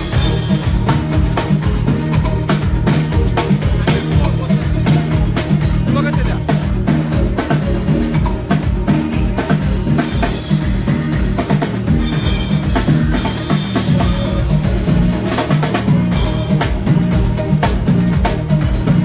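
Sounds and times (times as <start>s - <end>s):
bass line: 0.0s - 19.0s
drum kit playing: 0.0s - 19.0s.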